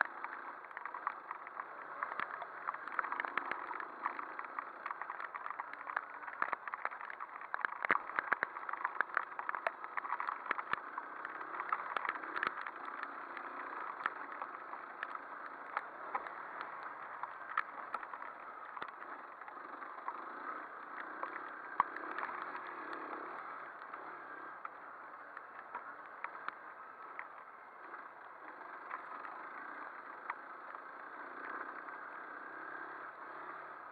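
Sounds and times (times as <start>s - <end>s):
clicks and knocks over bumps: 0.0s - 33.9s
off-road motorcycle engine: 0.0s - 33.9s.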